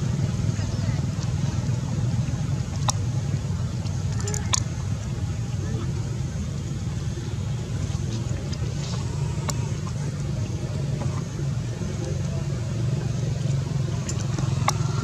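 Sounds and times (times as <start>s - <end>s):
motor low rumble: 0.0s - 15.0s.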